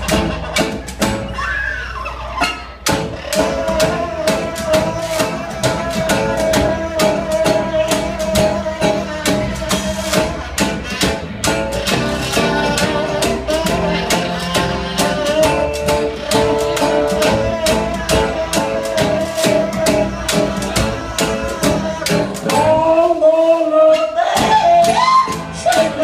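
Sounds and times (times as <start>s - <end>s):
drums: 0.0s - 26.0s
guitar: 0.0s - 26.0s
upright bass: 0.0s - 26.0s.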